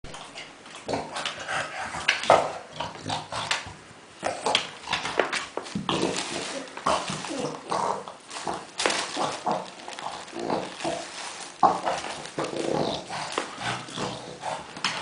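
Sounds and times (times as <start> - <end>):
dog making pig-like noises: 0.1 - 15.0.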